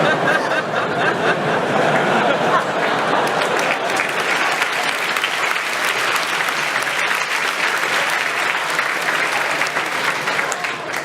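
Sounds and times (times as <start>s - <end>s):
audience applause: 1.5s - 11.0s.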